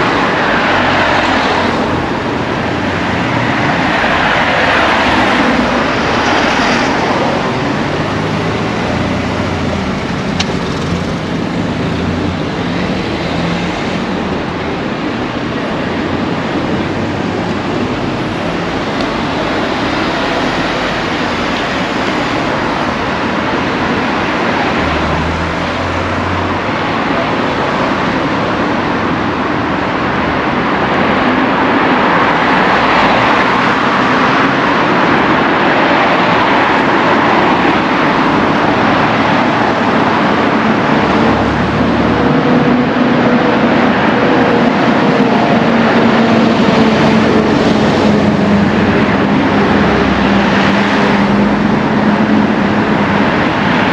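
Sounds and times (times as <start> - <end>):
road traffic passing: 0.0 - 53.9.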